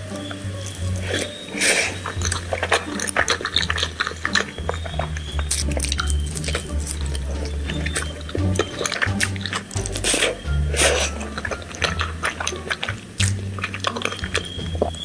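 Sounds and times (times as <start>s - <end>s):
person chewing with wet clicks: 0.0s - 15.0s.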